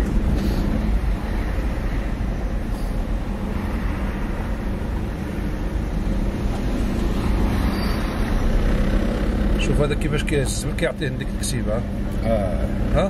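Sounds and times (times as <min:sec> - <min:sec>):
vehicle and road rumble: 0:00.0 - 0:13.0.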